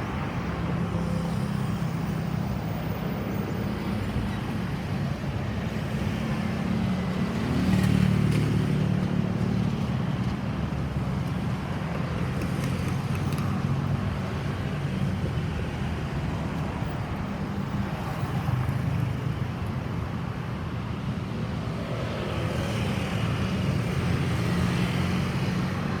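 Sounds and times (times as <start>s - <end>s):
road traffic engines humming: 0.0s - 26.0s.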